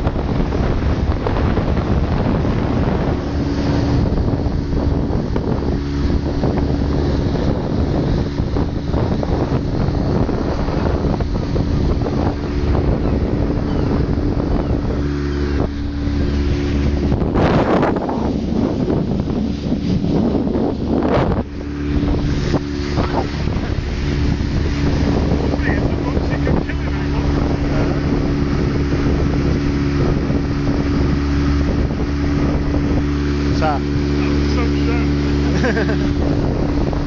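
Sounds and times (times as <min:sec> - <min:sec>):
motorboat engine humming: 0:00.0 - 0:37.0
wind buffeting microphone: 0:00.0 - 0:37.0.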